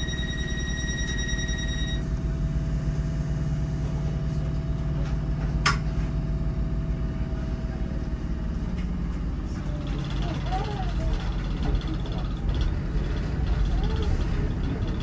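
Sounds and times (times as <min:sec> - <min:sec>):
train car low hum: 0:00.0 - 0:15.0.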